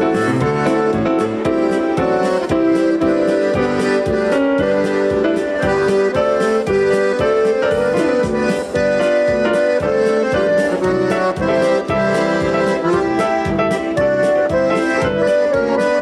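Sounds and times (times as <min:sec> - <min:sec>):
accordion melody: 0:00.0 - 0:16.0
polka band oom-pah beat: 0:00.0 - 0:16.0.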